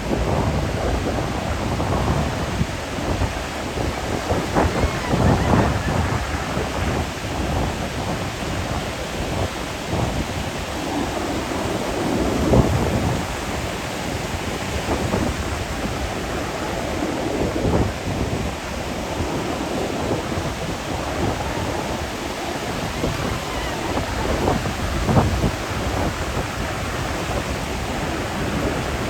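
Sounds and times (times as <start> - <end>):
surf breaking on a beach: 0.0 - 29.0
wind on microphone: 0.0 - 29.0.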